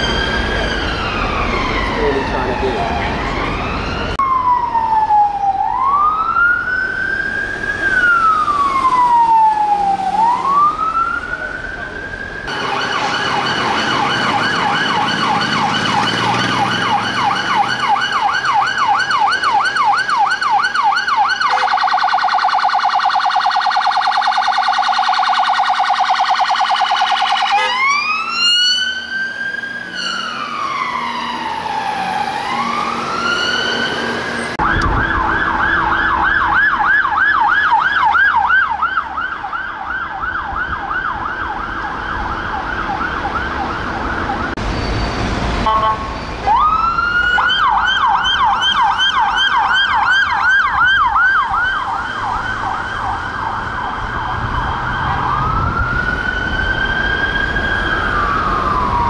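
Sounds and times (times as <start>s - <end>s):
police siren yelping: 0.0s - 44.6s, 45.6s - 59.0s
police siren: 0.0s - 59.0s
traffic noise: 0.0s - 59.0s.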